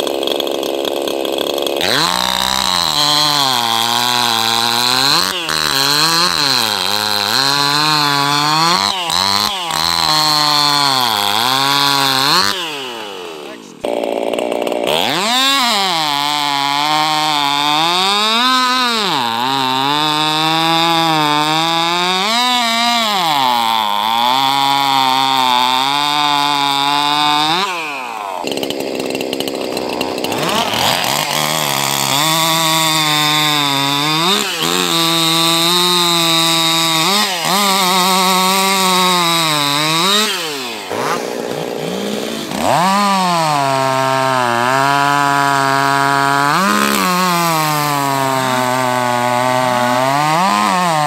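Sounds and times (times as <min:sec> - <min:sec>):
racing chainsaws cutting wood: 0:00.0 - 0:51.0.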